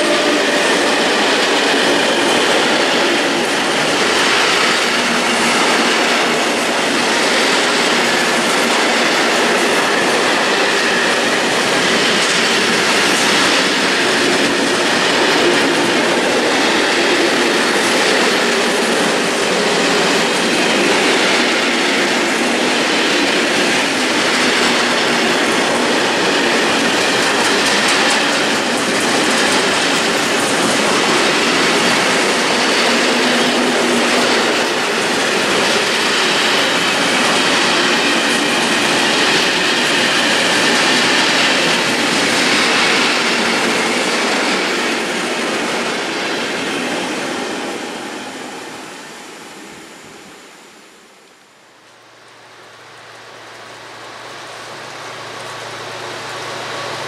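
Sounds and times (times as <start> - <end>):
freight train wheels clattering: 0.0 - 48.9.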